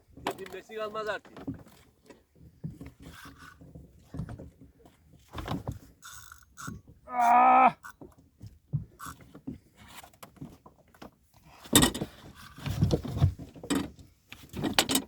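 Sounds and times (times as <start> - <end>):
knocks and thuds on a boat: 0.0 - 6.0, 6.6 - 7.1, 8.0 - 15.0.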